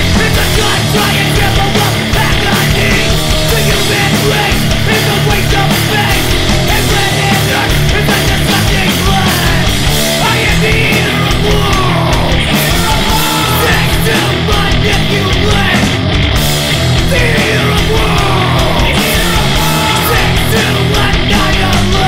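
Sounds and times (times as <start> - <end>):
loud hardcore punk song: 0.0 - 22.0.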